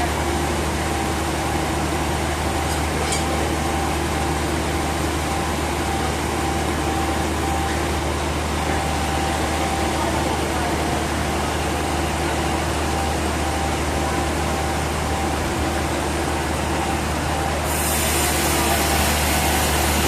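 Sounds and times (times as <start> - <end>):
sawmill machinery running: 0.0 - 20.0.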